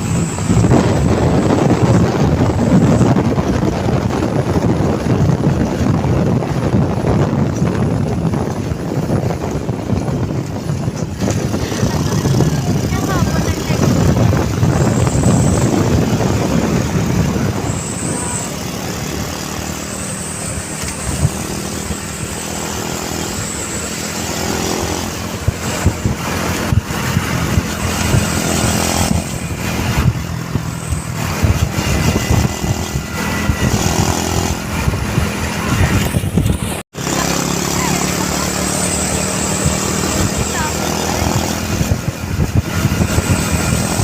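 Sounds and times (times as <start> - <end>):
diesel truck engine running: 0.0 - 44.0.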